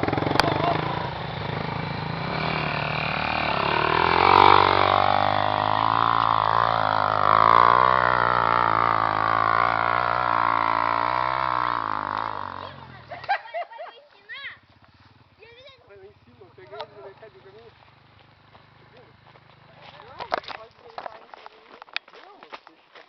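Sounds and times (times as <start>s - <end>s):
motorcycle engine revving: 0.0s - 13.4s, 14.6s - 21.1s.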